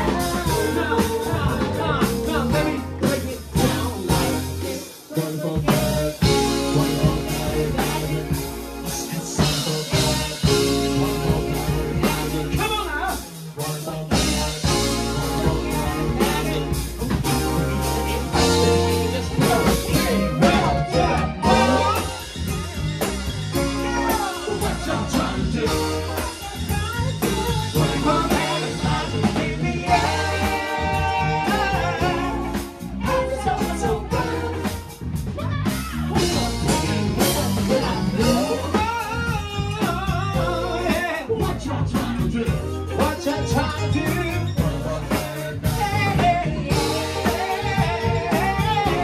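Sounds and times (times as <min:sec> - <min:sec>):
live band playing pop-funk: 0:00.0 - 0:49.0
person singing: 0:00.0 - 0:49.0.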